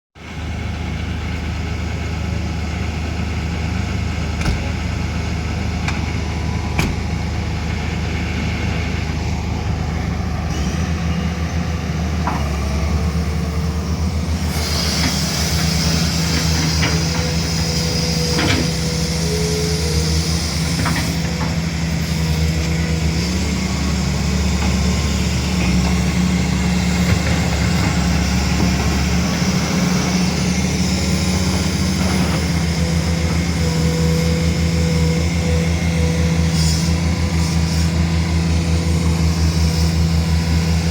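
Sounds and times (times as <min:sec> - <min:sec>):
excavator diesel engine running: 0:00.2 - 0:40.9.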